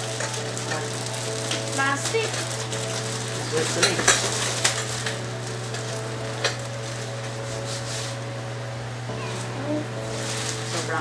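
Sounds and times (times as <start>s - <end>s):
plastic crackle: 0.0s - 11.0s
plastic wrapping crinkling: 0.0s - 11.0s.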